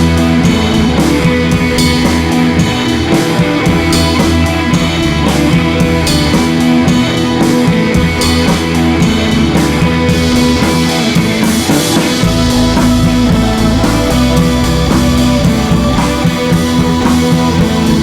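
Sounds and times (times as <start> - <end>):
drum kit: 0.0 - 18.0
electric guitar: 0.0 - 18.0
rock music: 0.0 - 18.0.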